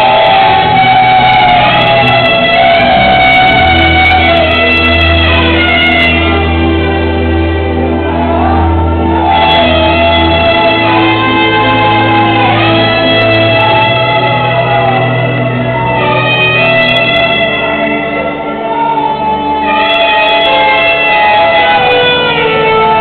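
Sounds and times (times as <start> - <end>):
sliding melody: 0.0 - 23.0
steady bass: 0.0 - 23.0
sustained notes: 0.0 - 23.0.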